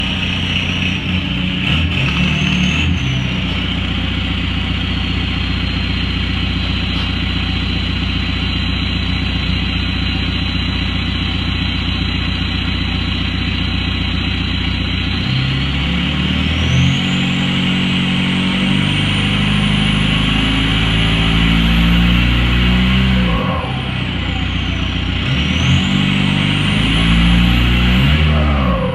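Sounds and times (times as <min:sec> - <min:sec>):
diesel engine revving and idling: 0:00.0 - 0:28.9.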